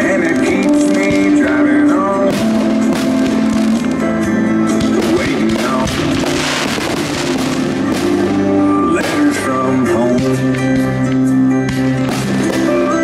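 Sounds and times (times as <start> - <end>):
person singing: 0.0 - 6.6, 8.1 - 13.0
guitar: 0.0 - 13.0.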